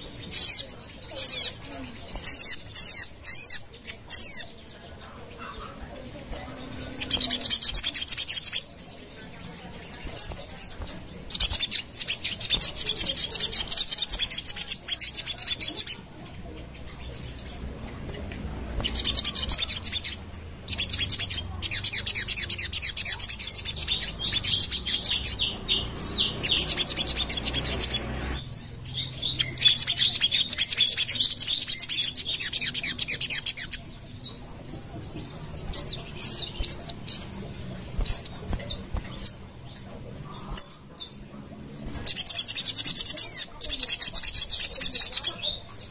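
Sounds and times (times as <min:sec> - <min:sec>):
bird chirps: 0:00.0 - 0:45.9
bird singing chattering trills: 0:00.0 - 0:45.9.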